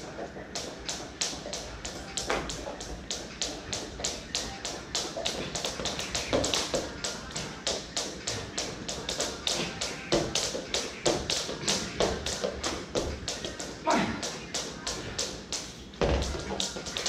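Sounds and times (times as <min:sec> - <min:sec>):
skipping rope slapping floor: 0:00.5 - 0:17.0.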